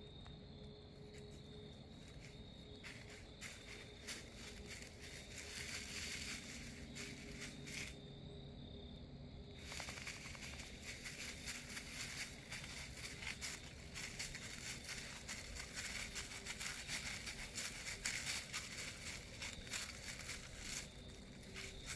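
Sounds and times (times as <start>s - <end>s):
dry leaves crunching underfoot: 1.9s - 8.0s, 9.6s - 21.9s.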